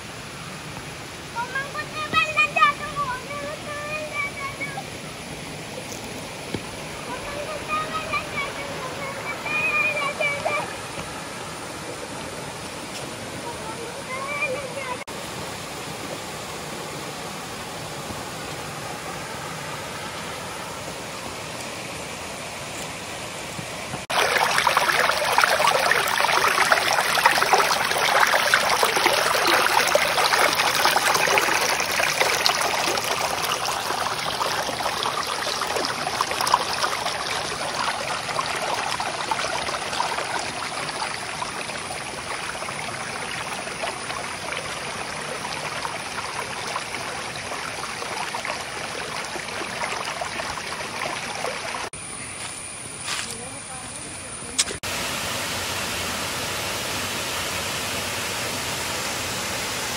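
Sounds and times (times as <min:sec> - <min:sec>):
water rushing over rocks: 0:00.0 - 0:51.9.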